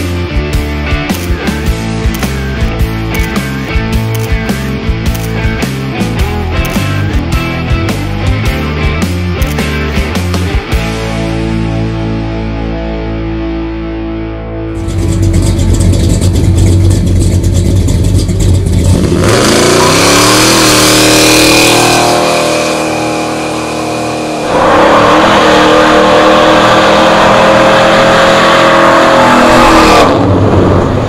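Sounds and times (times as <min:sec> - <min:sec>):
engine revving: 0:00.0 - 0:11.7, 0:14.7 - 0:31.0.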